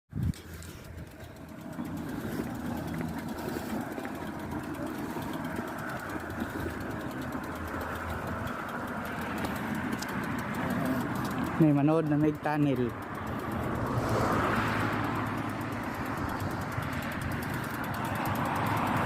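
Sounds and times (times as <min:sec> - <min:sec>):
road noise: 0:00.1 - 0:19.0
vehicle engine running: 0:00.1 - 0:19.0.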